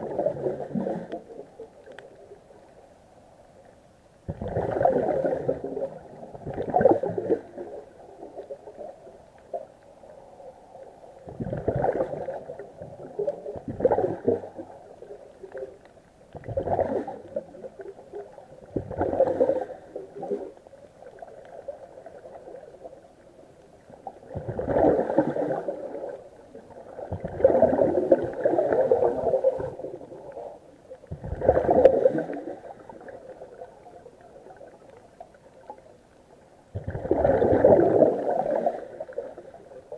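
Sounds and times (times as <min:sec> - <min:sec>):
regulator bubbles underwater: 0:00.0 - 0:39.9.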